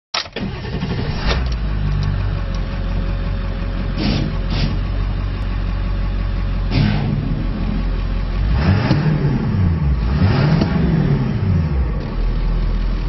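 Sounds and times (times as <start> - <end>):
diesel engine starting and idling: 0.2 - 13.0.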